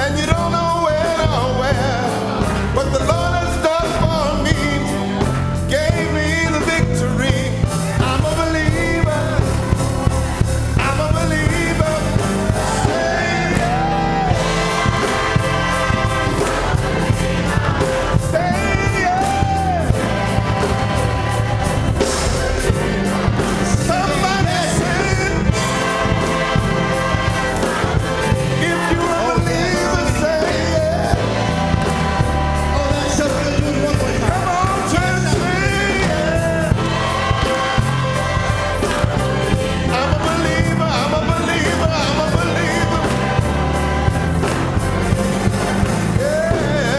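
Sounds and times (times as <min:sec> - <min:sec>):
band with beat and bass: 0:00.0 - 0:46.9
gospel choir singing: 0:00.0 - 0:46.9.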